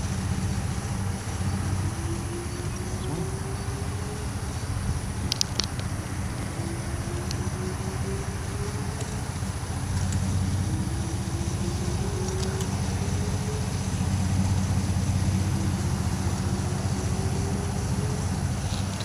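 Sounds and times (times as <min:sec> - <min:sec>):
heavy low rumble: 0:00.0 - 0:19.0
warning siren wailing: 0:00.0 - 0:19.0.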